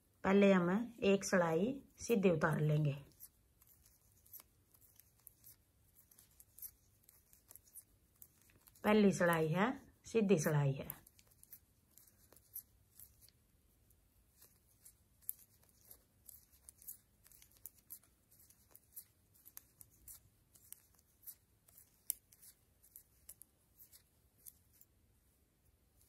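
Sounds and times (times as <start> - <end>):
knitting needles clicking: 2.5 - 25.0.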